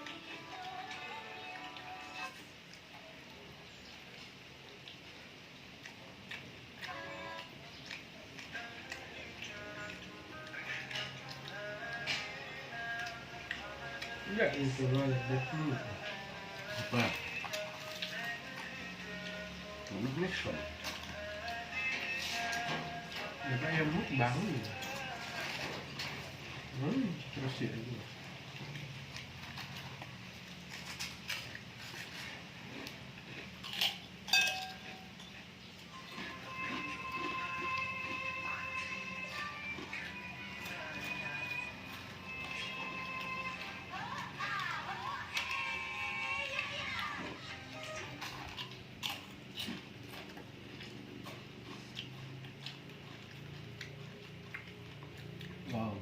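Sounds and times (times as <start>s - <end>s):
chewing with wet clicks: 0.0s - 56.0s.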